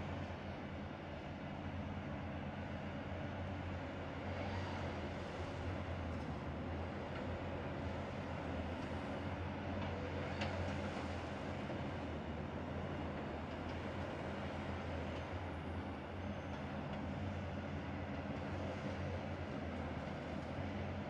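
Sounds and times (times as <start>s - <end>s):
excavator engine droning: 0.0s - 21.0s.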